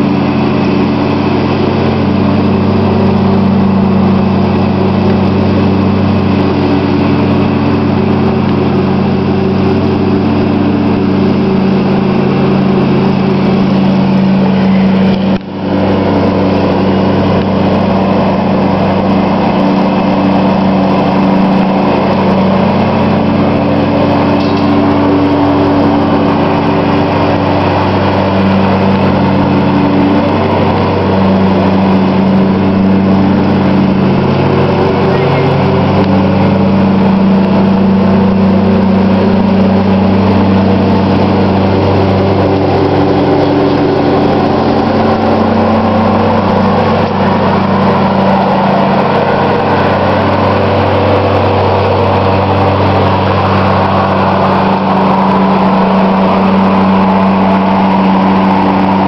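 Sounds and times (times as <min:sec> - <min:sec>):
riding lawn tractor running: 0:00.0 - 0:59.0.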